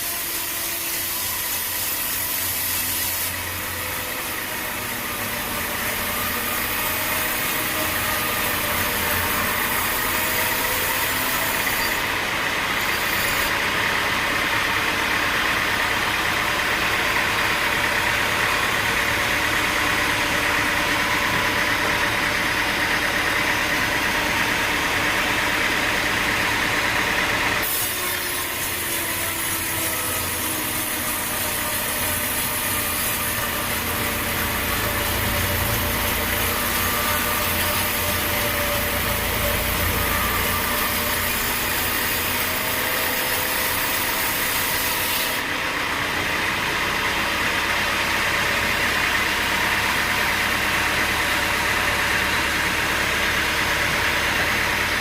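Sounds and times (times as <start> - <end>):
saw cutting wood: 0.0 - 55.0
sawmill machinery drone: 0.0 - 55.0.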